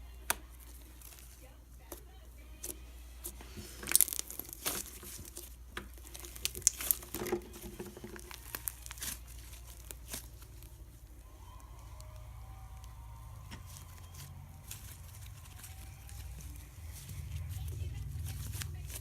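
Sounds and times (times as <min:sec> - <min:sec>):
slime squished crackling: 0:00.0 - 0:19.0.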